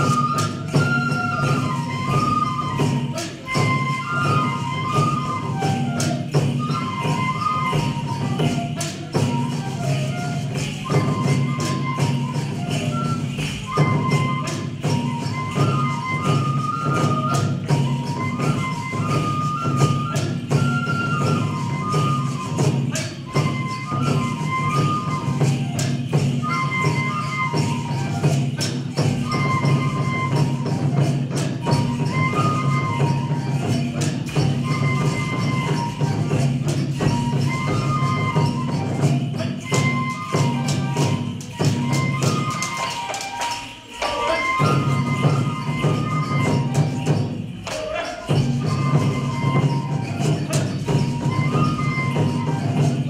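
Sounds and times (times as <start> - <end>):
high bamboo flute melody: 0.0 - 53.0
quick percussion beats: 0.0 - 53.0.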